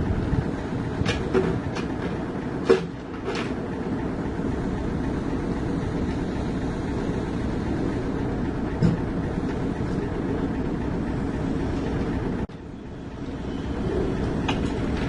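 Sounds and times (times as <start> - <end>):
diesel machinery rumbling: 0.0 - 15.0.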